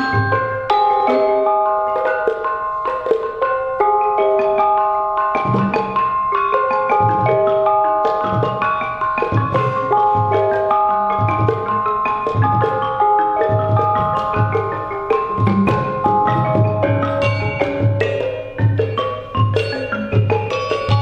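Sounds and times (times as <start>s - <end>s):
gamelan ensemble playing: 0.0s - 21.0s.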